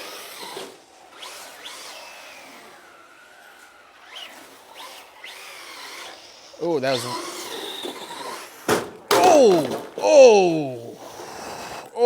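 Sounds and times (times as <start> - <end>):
rc car motor whining: 0.0 - 12.0.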